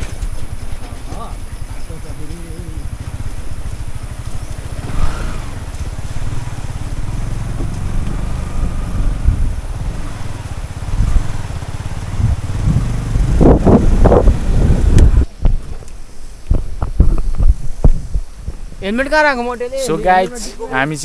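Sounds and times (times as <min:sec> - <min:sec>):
motorcycle engine running: 0:00.0 - 0:20.8
wind buffeting microphone: 0:00.0 - 0:21.0.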